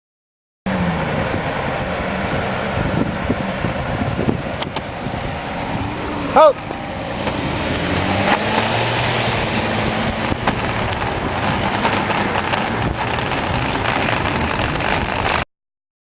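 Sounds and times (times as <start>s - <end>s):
motor vehicle running: 0.7s - 15.4s
tyre and wind noise: 0.7s - 15.4s.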